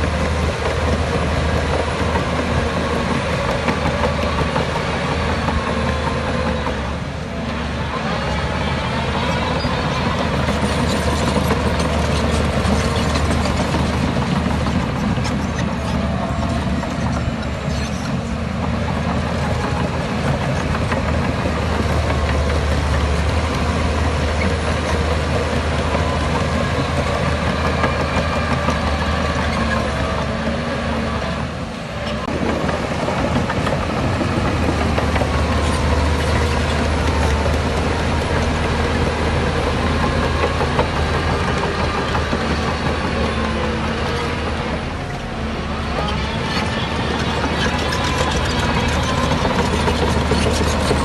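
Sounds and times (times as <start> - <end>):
diesel earthmoving machinery: 0.0 - 51.0.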